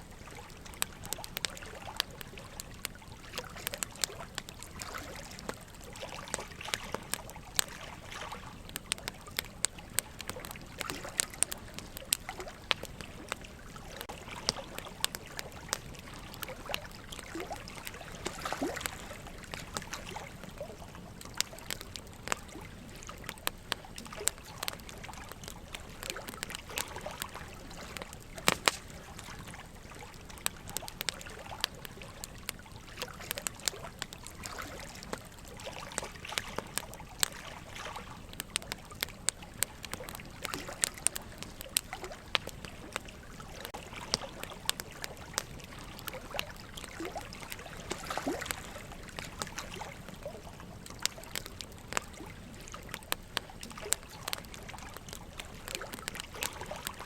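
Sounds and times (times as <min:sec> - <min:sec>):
running water trickling: 0:00.0 - 0:57.0
wood fire crackling: 0:00.0 - 0:57.0.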